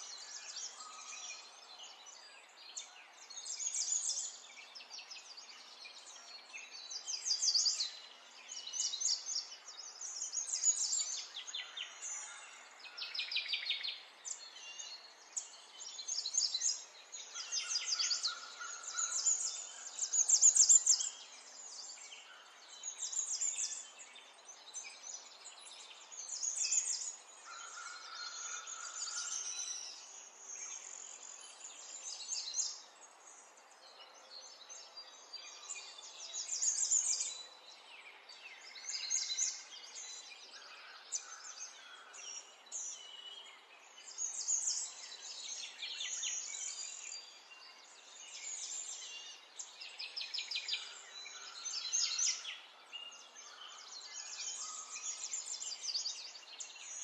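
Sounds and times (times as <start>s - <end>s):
songbird trills and chirps: 0.0s - 57.0s.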